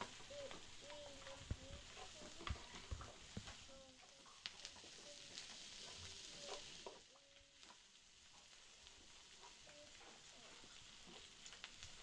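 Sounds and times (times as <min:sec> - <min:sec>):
faint crackling hiss: 0:00.0 - 0:12.0.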